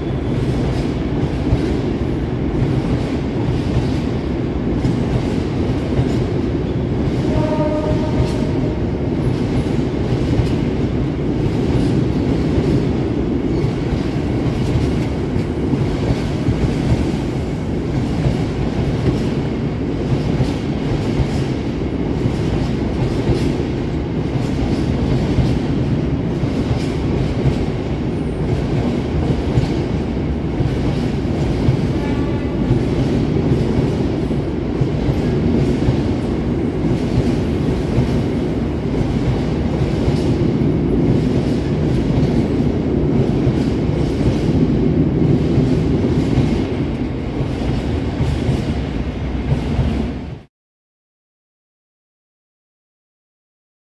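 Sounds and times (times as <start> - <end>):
freight train rumbling: 0.0 - 50.5.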